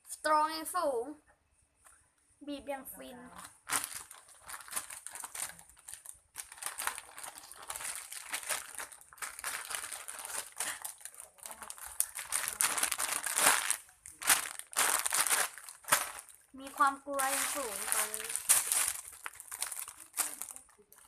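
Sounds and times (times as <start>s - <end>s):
foam toy squeezed crinkling: 3.4s - 21.0s.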